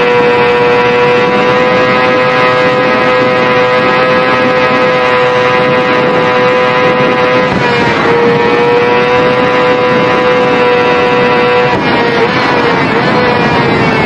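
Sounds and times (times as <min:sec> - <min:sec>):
motorbike engine revving high: 0:00.0 - 0:14.0.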